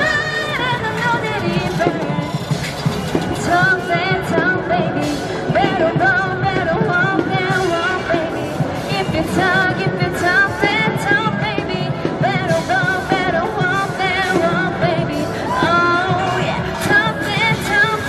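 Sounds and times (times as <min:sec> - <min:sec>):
upbeat pop song with vocals: 0:00.0 - 0:18.0.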